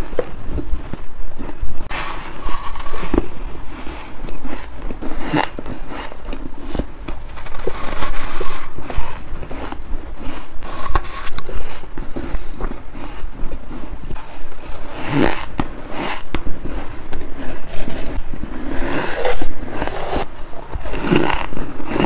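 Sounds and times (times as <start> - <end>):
chewing crunchy frost: 0.0 - 22.0.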